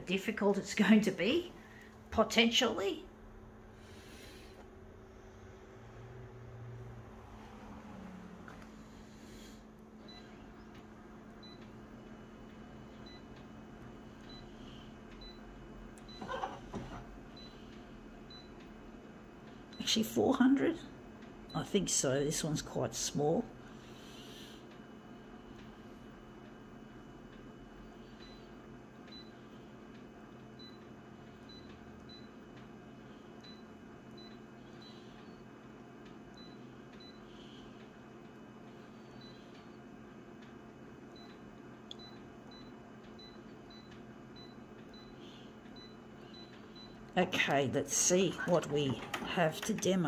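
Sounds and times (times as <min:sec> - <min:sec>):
photocopier humming: 0:00.0 - 0:50.0.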